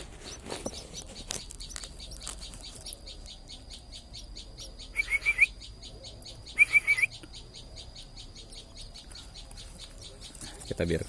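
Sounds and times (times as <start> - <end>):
bird chicks chirping: 0.0 - 11.0
lower bird call notes: 0.2 - 10.5.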